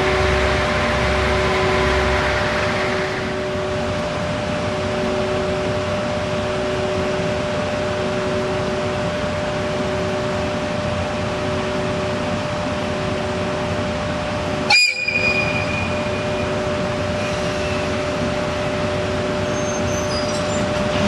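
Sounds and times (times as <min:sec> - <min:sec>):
cooling blowers hissing: 0:00.0 - 0:21.0.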